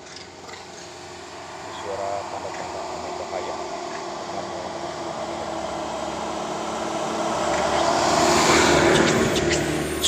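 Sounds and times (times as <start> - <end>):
motor vehicle engine running: 0.0 - 10.0.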